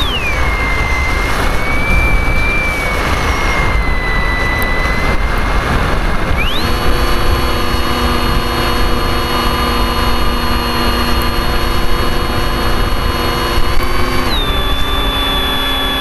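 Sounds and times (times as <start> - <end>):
electric motor whine: 0.0 - 16.0
low rush of noise: 0.0 - 16.0.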